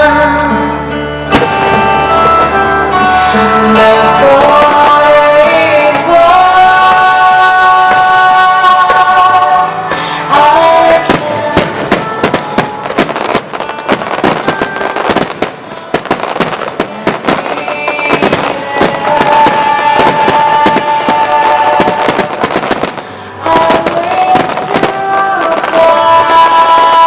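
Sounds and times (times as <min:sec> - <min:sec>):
music with held notes: 0:00.0 - 0:27.0
fireworks bursts and bangs: 0:01.3 - 0:09.5, 0:10.3 - 0:27.0.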